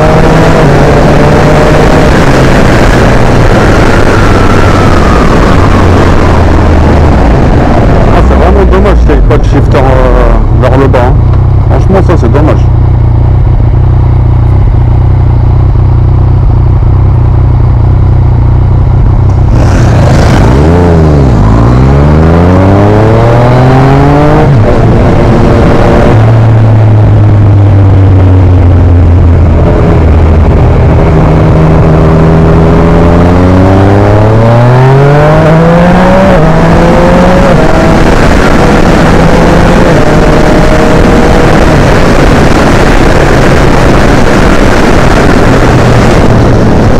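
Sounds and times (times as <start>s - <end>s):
wind rush: 0.0s - 12.0s, 19.0s - 46.9s
motorcycle engine accelerating: 0.0s - 46.9s.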